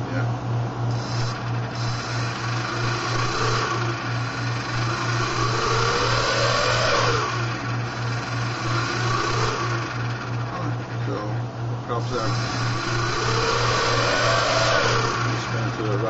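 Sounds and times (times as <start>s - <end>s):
quadcopter motors spinning: 0.9s - 16.0s.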